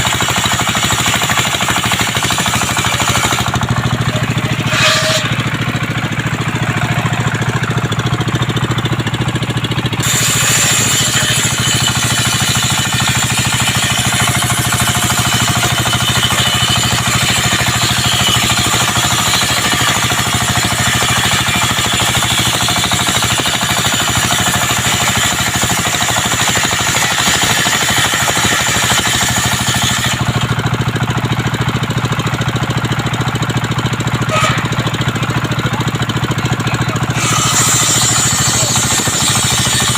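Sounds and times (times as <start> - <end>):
circular saw cutting wood: 0.0 - 39.9
engine drone: 0.0 - 39.9.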